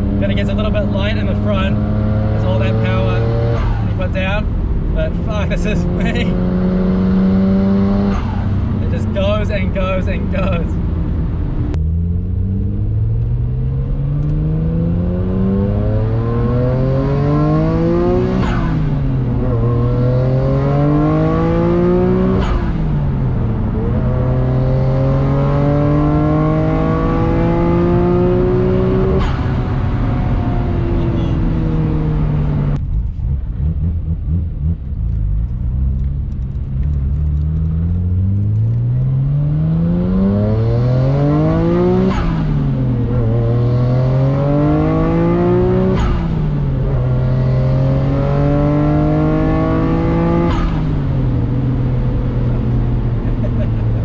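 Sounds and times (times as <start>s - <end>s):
turbocharged car engine revving: 0.0s - 32.8s, 33.5s - 54.0s.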